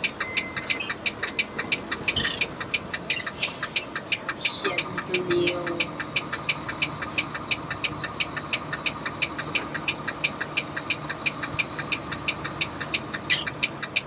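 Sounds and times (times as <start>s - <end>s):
diesel engine idling: 0.0s - 14.0s
engine ticking: 0.0s - 14.0s.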